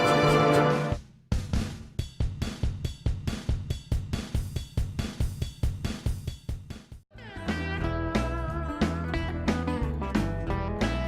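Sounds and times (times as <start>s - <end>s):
music with driving drum beat: 0.0s - 11.0s.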